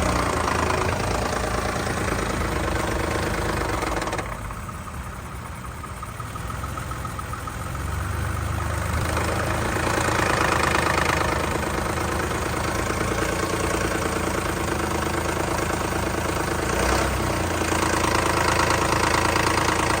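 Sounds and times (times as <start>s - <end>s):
car engine knocking: 0.0s - 20.0s.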